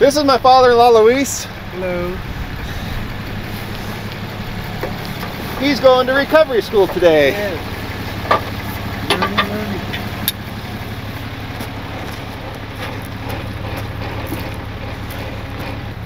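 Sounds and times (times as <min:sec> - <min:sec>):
truck engine idling: 0:00.0 - 0:16.0
winch line pulled out: 0:00.1 - 0:16.0.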